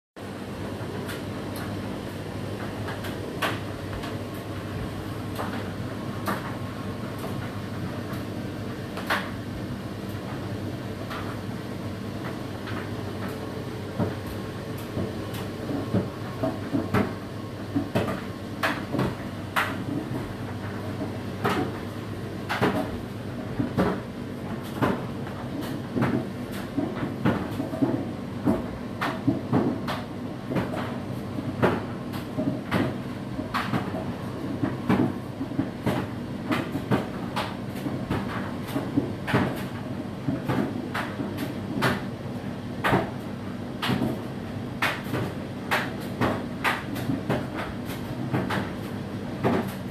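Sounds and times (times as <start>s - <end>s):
dishwasher pump hum: 0.2s - 49.9s.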